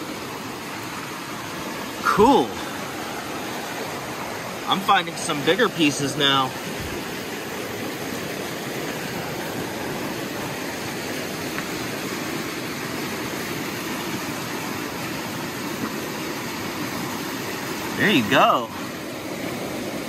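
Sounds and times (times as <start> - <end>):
mountain creek rushing: 0.0 - 20.0.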